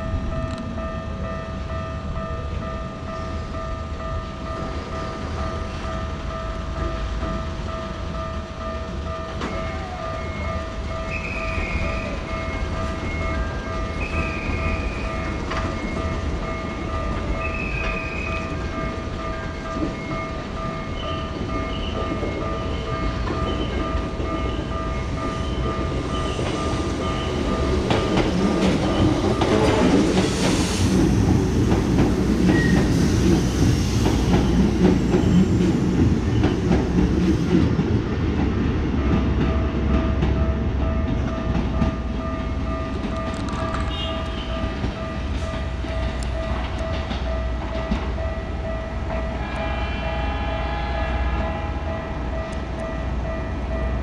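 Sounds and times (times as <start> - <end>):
level-crossing alarm bell: 0.0 - 37.6, 38.2 - 54.0
train passing with wheels clattering: 0.0 - 54.0.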